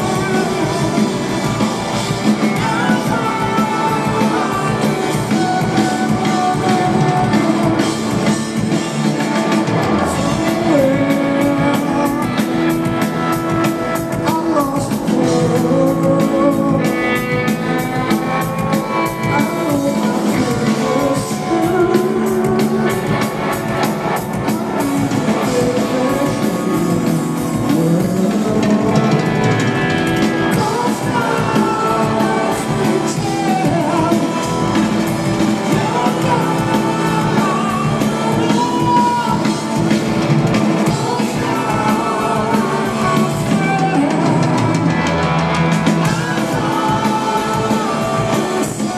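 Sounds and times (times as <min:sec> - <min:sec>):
drum kit: 0:00.0 - 0:48.9
electric bass: 0:00.0 - 0:48.9
electric guitar: 0:00.0 - 0:48.9
person singing: 0:00.0 - 0:48.9.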